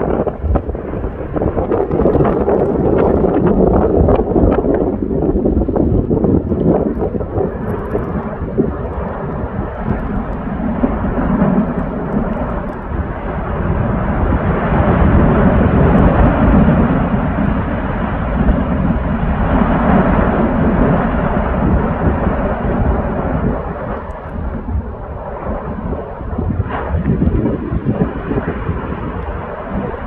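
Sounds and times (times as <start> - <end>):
volcanic eruption roaring: 0.0 - 30.0.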